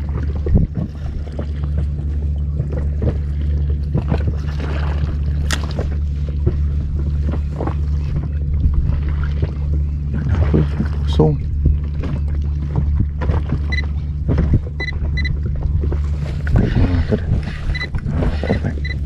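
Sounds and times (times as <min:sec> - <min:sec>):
outboard motor humming: 0:00.0 - 0:19.0.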